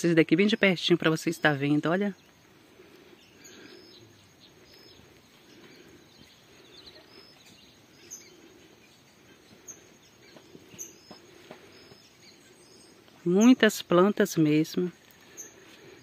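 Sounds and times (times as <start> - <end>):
distant birds chirping: 0.0 - 16.0.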